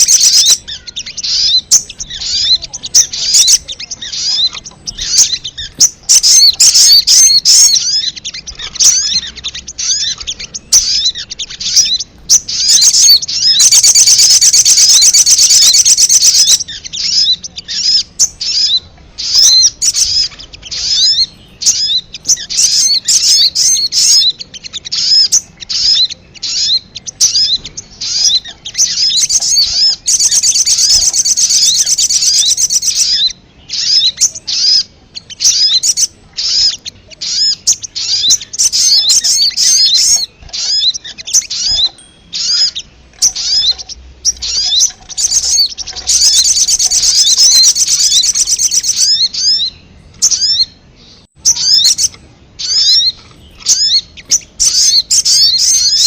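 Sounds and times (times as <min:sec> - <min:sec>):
bird chirps and buzzy trill: 0:00.0 - 0:56.0.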